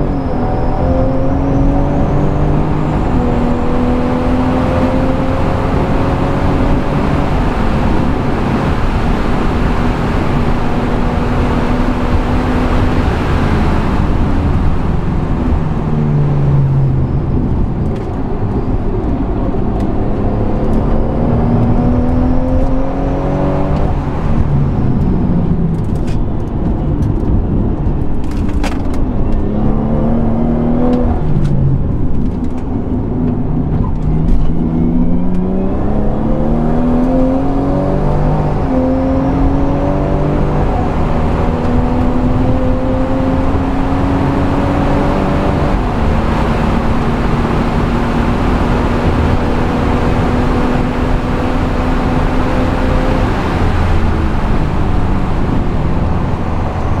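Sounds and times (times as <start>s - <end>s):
car engine accelerating through gears: 0.0s - 57.0s
tyre and wind noise: 0.0s - 57.0s.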